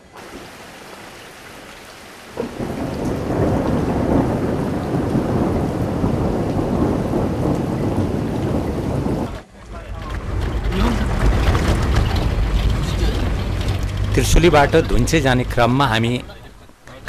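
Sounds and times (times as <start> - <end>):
rain falling: 0.0 - 17.0
thunder rumbling: 2.2 - 17.0.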